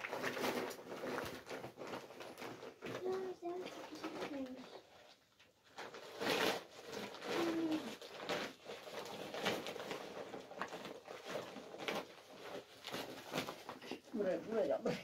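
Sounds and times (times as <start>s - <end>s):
cloth and plastic sack rustling: 0.0s - 15.0s.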